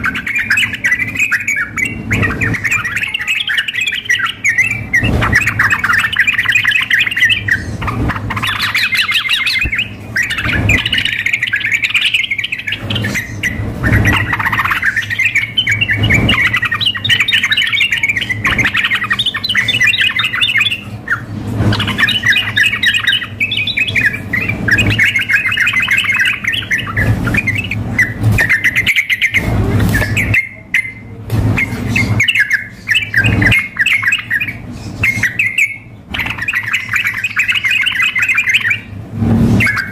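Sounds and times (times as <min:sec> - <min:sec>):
bulbuls chattering song: 0:00.0 - 0:39.9.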